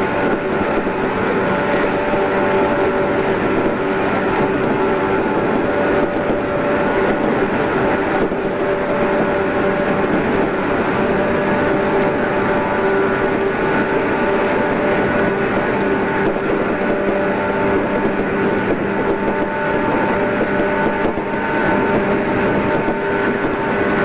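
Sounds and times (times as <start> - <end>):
electric train rumble: 0.0 - 24.0
train motor whining: 0.0 - 24.0.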